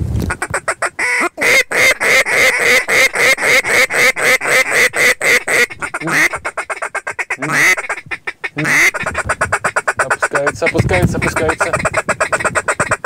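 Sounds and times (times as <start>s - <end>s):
duck call quacks: 0.3s - 13.0s.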